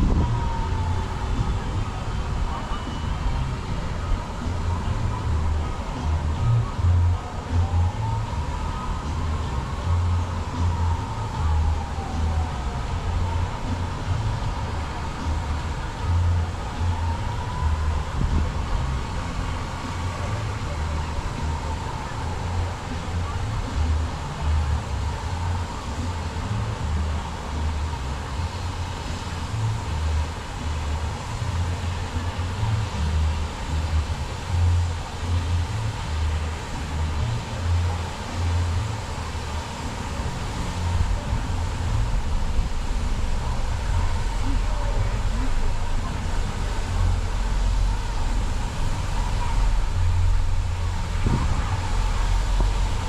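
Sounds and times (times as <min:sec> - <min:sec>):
low rumble: 0:00.0 - 0:53.0
wind buffeting microphone: 0:00.0 - 0:53.0.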